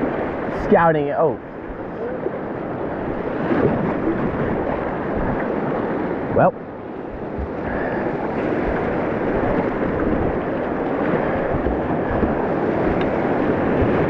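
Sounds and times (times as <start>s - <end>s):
water rushing through rapids: 0.0s - 14.0s
wind rumbling on microphone: 0.0s - 14.0s.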